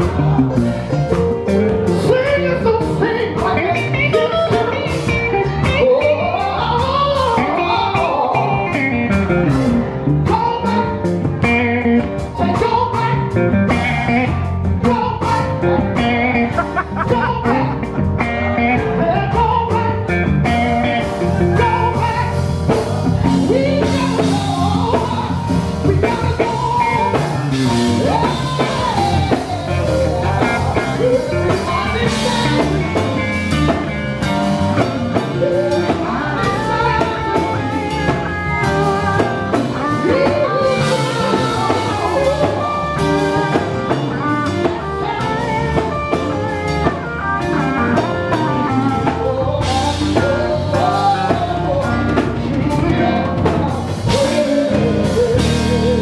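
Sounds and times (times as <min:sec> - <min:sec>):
drum kit: 0:00.0 - 0:56.0
guitar: 0:00.0 - 0:56.0
voices singing gospel: 0:10.2 - 0:56.0.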